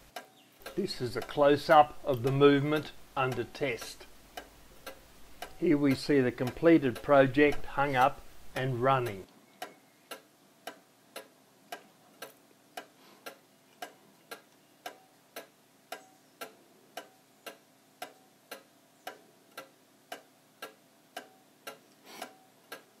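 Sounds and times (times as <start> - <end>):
wall clock ticking: 0.0 - 23.0.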